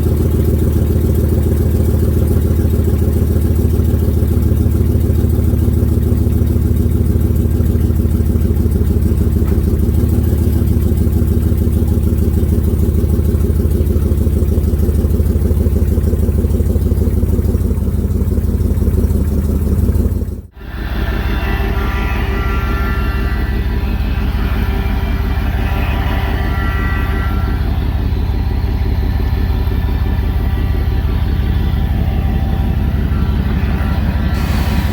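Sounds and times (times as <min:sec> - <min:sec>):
engine running with whining tones: 0:00.0 - 0:34.9
truck engine idling: 0:00.0 - 0:34.9.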